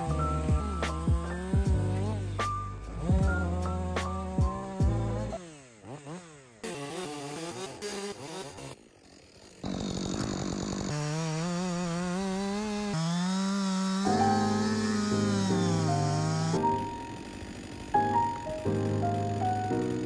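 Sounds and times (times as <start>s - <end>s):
chainsaw revving and cutting log: 0.0s - 20.0s.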